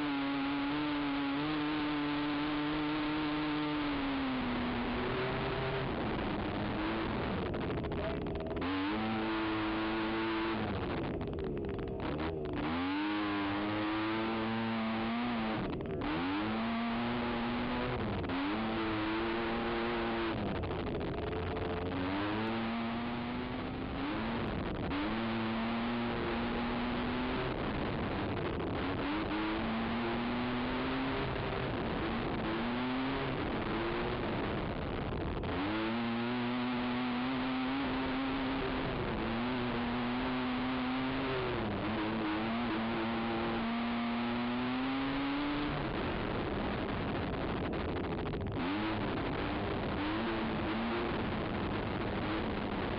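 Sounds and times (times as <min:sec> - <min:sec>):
atv engine revving: 0:00.0 - 0:52.9.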